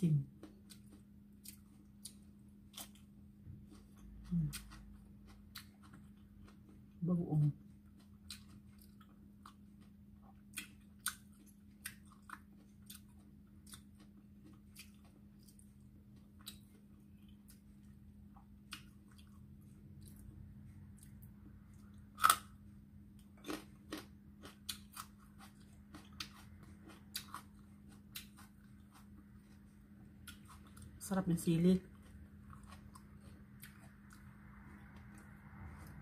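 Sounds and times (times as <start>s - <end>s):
chewing and crunching food: 0.0s - 36.0s
steady low hum: 0.0s - 36.0s.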